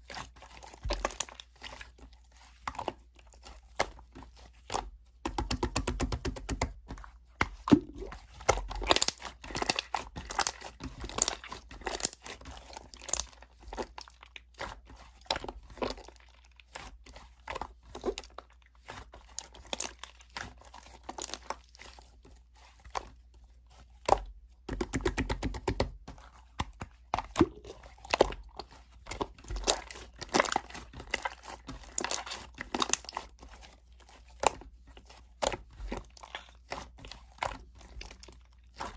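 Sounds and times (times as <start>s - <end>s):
slime kneaded by hand: 0.0s - 38.9s.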